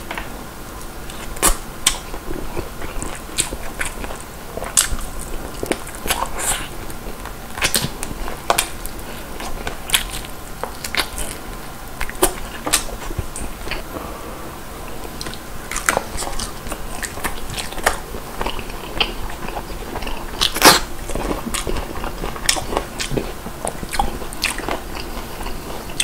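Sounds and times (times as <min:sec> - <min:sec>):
person chewing crispy chicken: 0:01.0 - 0:13.9, 0:15.0 - 0:26.0.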